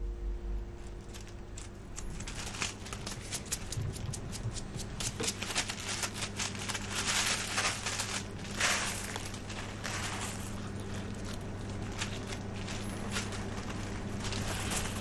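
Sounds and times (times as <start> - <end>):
faint low hum: 0.0 - 15.0
crackling and rustling: 0.7 - 15.0.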